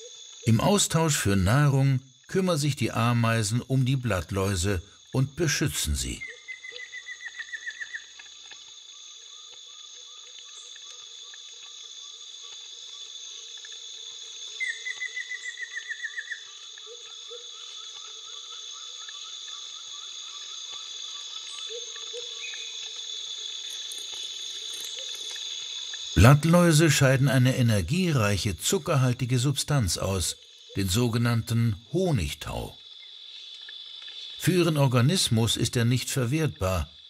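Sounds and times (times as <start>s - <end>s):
insects chirping: 0.0s - 37.0s
rapid insect trill: 0.0s - 37.0s.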